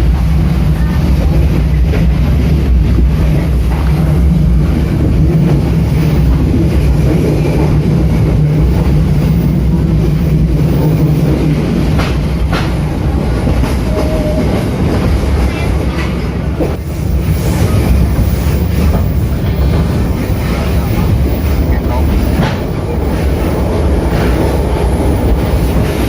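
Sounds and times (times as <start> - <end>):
train rumbling on rails: 0.0 - 26.0
train wheels clicking: 1.3 - 26.0.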